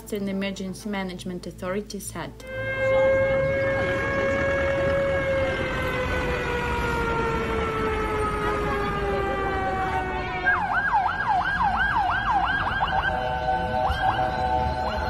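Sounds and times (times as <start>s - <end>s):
siren yelping: 2.4s - 15.0s.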